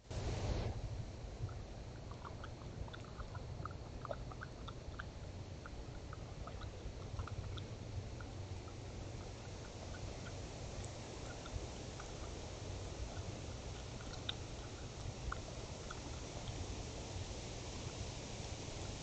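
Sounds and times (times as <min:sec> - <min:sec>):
steady low hum: 0:00.0 - 0:19.0
raccoon chewing and smacking: 0:01.4 - 0:19.0.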